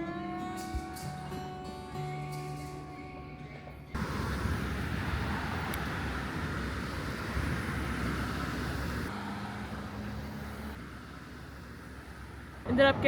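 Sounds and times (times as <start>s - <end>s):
road vehicle rumble: 0.0s - 13.0s.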